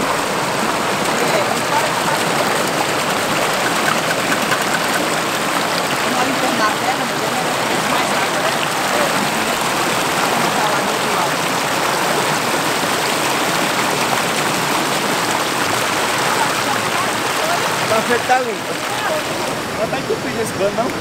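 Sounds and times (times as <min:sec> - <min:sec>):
water rushing over wall: 0:00.0 - 0:21.0.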